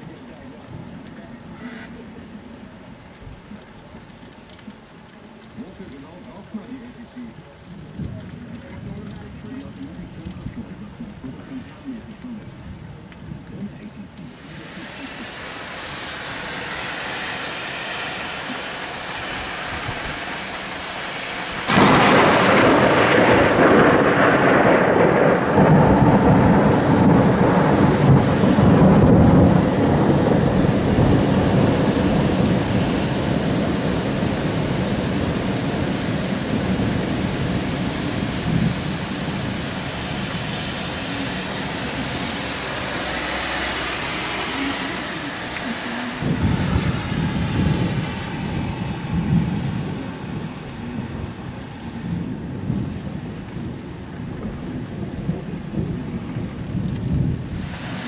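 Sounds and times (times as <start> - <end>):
rain splattering on pavement: 0.0 - 58.0
thunder clap and rumble: 6.9 - 58.0.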